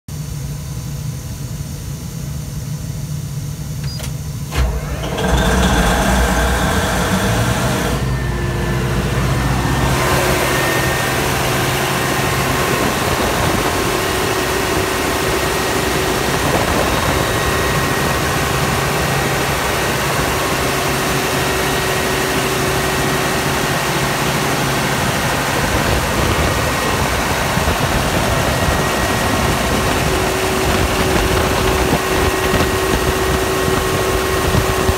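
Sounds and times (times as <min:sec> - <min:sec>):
diesel generator engine running: 0:00.1 - 0:34.9.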